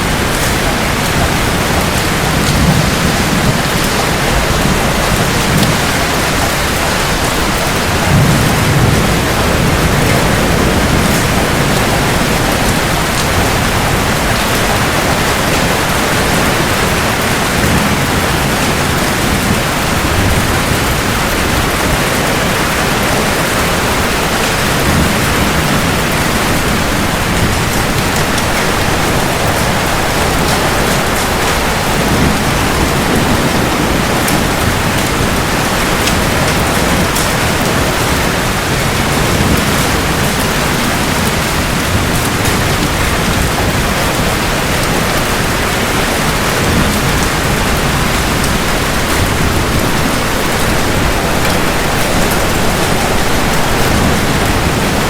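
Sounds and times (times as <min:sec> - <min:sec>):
distant thunder rolling: 0:00.0 - 0:55.0
heavy rain on hard surfaces: 0:00.0 - 0:55.0.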